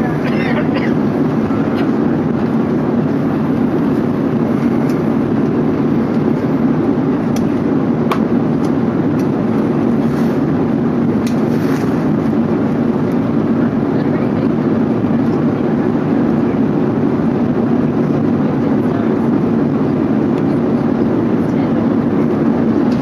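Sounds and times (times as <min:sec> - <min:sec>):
airliner cabin engine noise: 0:00.0 - 0:23.0.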